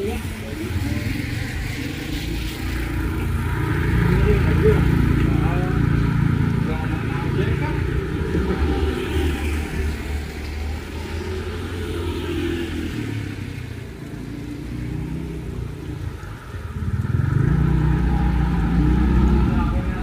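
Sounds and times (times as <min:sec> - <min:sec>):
heavy rain hiss: 0:00.0 - 0:20.0.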